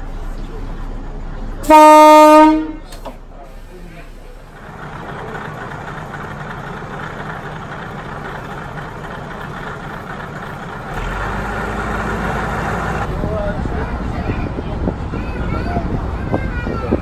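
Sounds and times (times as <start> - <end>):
diesel railcar engine idling: 0.0 - 17.0.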